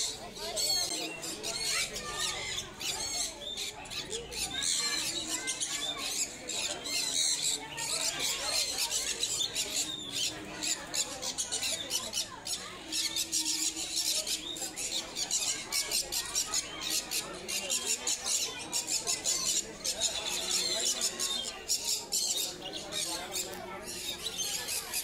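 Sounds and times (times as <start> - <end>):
caged birds chirping: 0.0 - 25.0.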